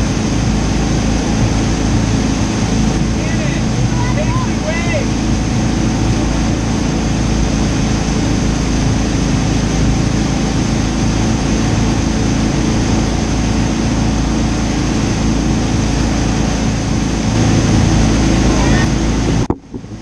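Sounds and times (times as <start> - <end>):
boat engine droning: 0.0 - 20.0
churning wake water rushing: 0.0 - 20.0.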